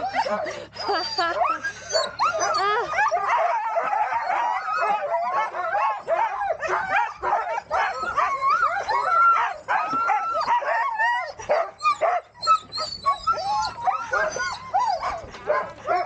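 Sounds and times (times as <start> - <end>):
sled dogs barking and yipping: 0.0 - 16.0.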